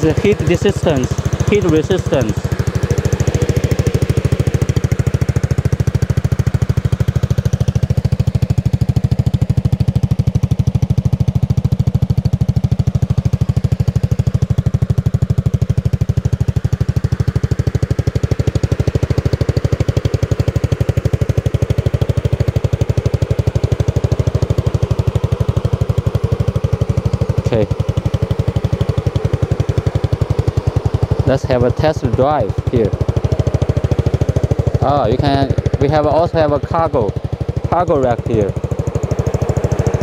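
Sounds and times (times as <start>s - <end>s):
go-kart engine idling: 0.0s - 40.0s.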